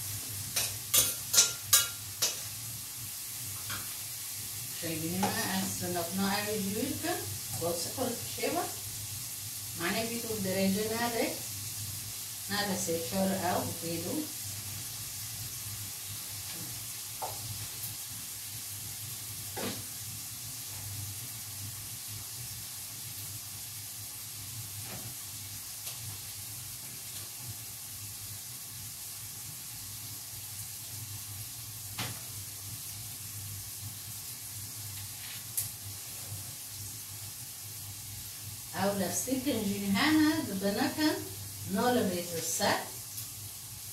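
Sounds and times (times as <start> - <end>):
mushrooms sizzling in a pan: 0.0 - 43.9.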